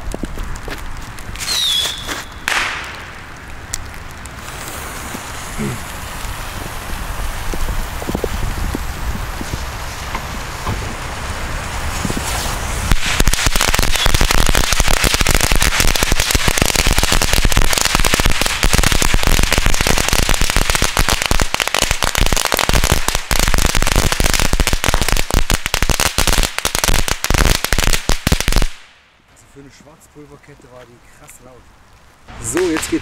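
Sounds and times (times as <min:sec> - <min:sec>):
firecracker fuse hiss: 0:00.4 - 0:03.5, 0:04.2 - 0:29.0.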